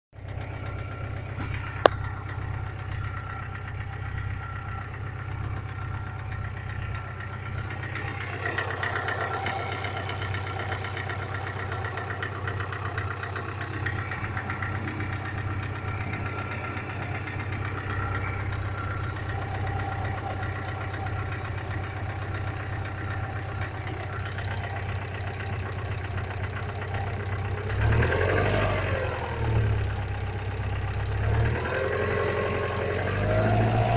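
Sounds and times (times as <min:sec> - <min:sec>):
car engine idling with knock: 0:00.2 - 0:33.9
engine revving: 0:00.4 - 0:33.9.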